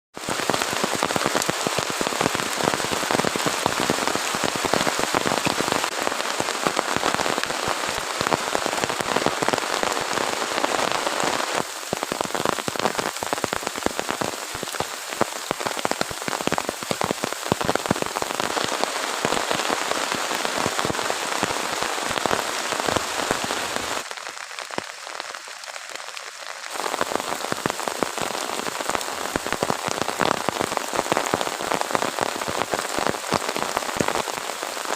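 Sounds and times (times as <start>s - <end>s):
heavy rain on hard surface: 0.1s - 34.9s.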